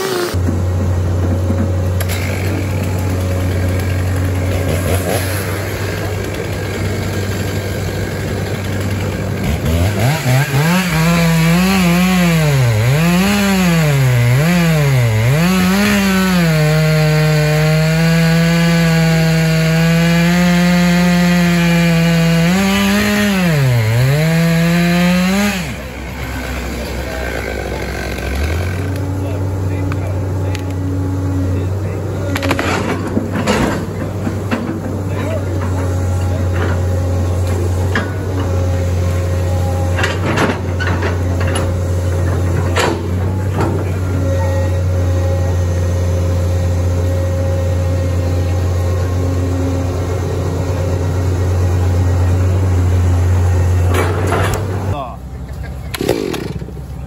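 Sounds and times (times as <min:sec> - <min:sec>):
chainsaw cutting wood: 0:00.0 - 0:00.7, 0:01.6 - 0:30.8, 0:32.2 - 0:55.1, 0:55.9 - 0:57.0.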